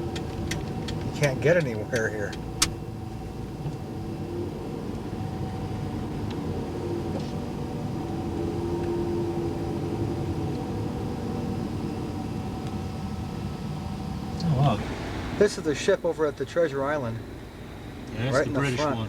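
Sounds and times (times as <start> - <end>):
car engines in slow traffic: 0.0 - 19.0.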